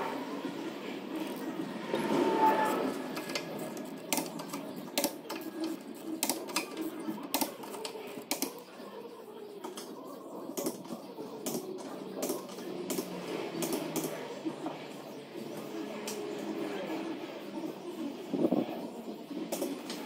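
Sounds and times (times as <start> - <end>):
low workshop hum: 0.0 - 20.0.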